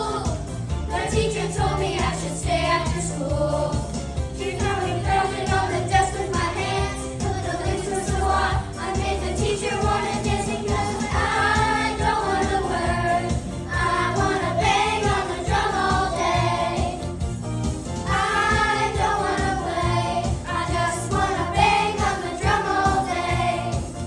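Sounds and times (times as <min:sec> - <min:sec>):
voices singing together: 0:00.0 - 0:17.2, 0:18.0 - 0:24.0
steady drum beat: 0:00.0 - 0:24.0.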